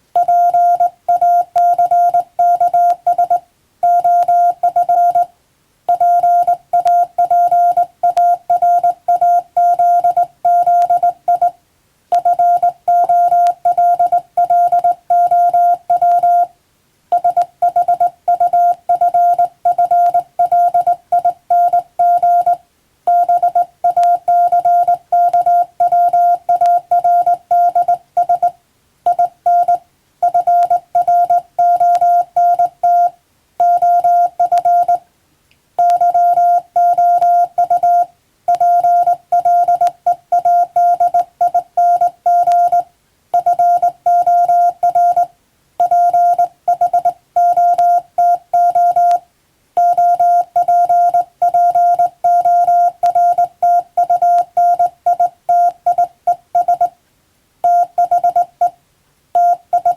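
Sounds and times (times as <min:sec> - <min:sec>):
morse code tone: 0:00.2 - 0:05.3, 0:05.9 - 0:16.5, 0:17.1 - 0:35.0, 0:35.8 - 0:49.2, 0:49.8 - 0:56.9, 0:57.6 - 0:58.8, 0:59.4 - 0:59.9.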